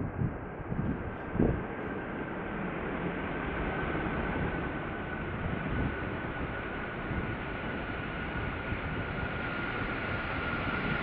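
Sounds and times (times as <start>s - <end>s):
jet engines roaring: 0.5s - 11.0s.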